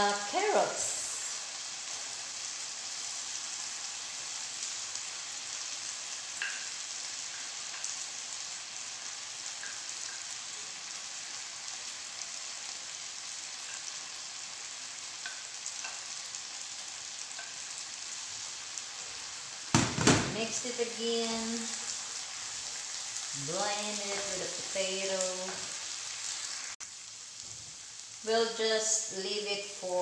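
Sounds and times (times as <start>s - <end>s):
vegetables sizzling in butter: 0.0s - 30.0s.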